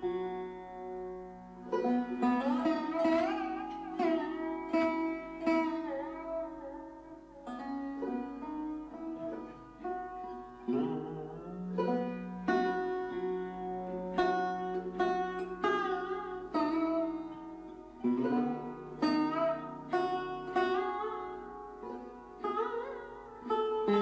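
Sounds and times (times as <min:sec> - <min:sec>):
sitar melody: 0:00.0 - 0:24.0.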